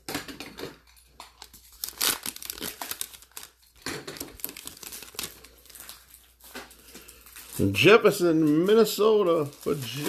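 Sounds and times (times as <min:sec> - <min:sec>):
wrapper tearing and crinkling: 0:00.4 - 0:10.0.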